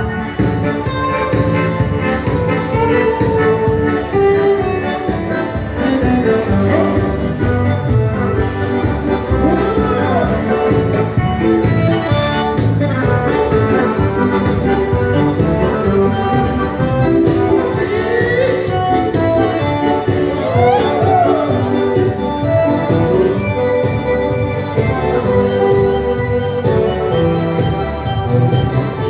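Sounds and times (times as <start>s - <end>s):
dance-band music: 0.0s - 29.0s.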